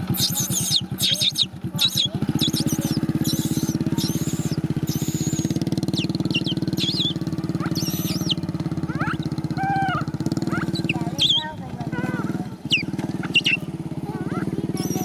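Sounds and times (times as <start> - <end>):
high-pitched chirping calls: 0.0 - 15.0
motorcycle engine idling: 0.0 - 15.0.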